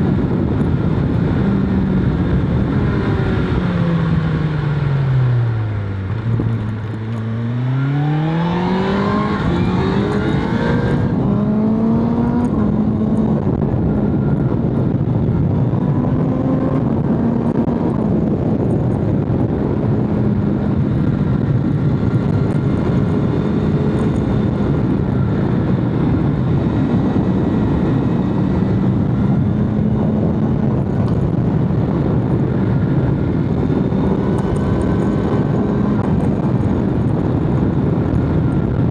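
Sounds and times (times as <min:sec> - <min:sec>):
motorcycle engine revving: 0:00.0 - 0:38.9
wind rushing: 0:00.0 - 0:38.9.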